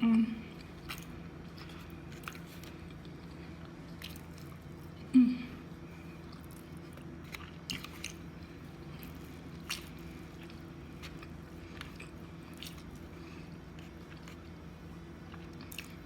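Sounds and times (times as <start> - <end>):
steady low hum: 0.0 - 16.0
chewing and wet mouth sounds: 0.4 - 16.0.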